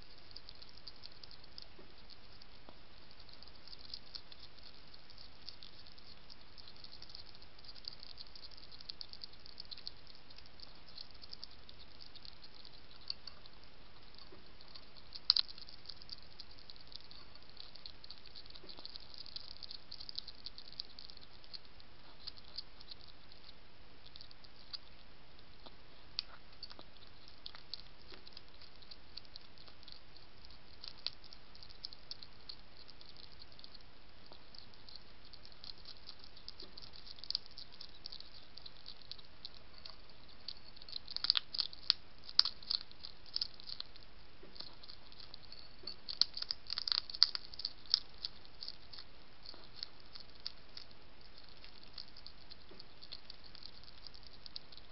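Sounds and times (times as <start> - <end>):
hedgehog crunching food pellets: 0.0 - 54.9.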